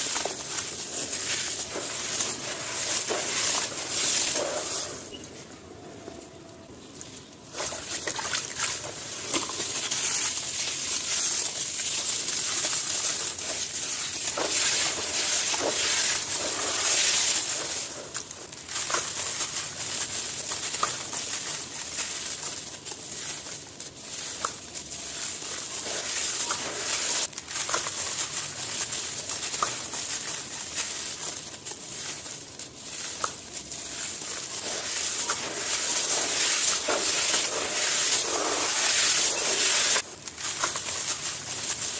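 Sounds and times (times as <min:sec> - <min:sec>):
brittle chunks crunching by hand: 0:07.5 - 0:41.9.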